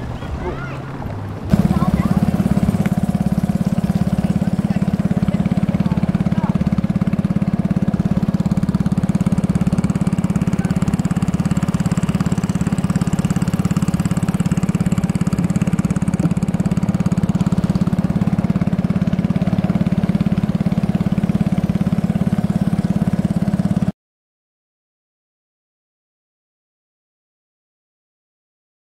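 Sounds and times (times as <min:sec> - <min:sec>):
small boat engine running: 0:00.0 - 0:24.0.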